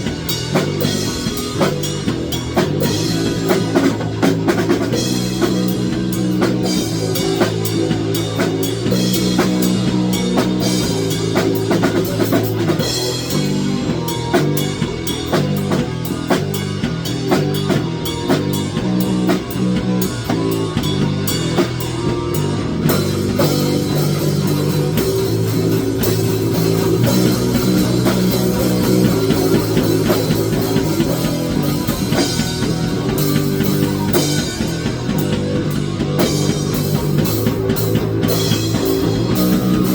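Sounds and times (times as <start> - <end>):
rock music on drums and guitar: 0.0 - 39.9.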